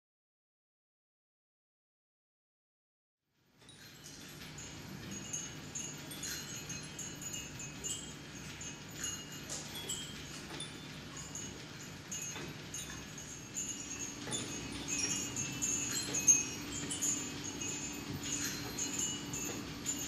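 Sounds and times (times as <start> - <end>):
small metal bells tinkling: 3.6 - 20.0
steady low hum: 3.8 - 20.0.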